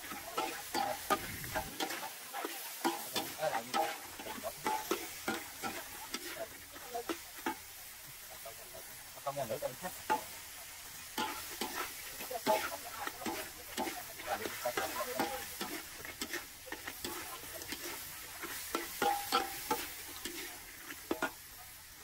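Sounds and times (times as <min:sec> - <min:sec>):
faint voices: 0:00.0 - 0:22.0.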